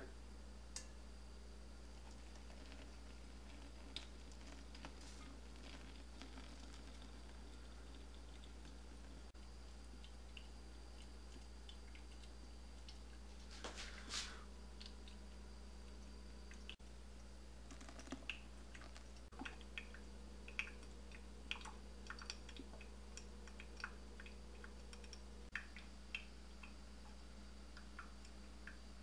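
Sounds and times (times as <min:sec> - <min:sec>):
low steady hum: 0:00.0 - 0:29.0
coffee dripping into glass pot: 0:01.8 - 0:13.5, 0:14.6 - 0:29.0.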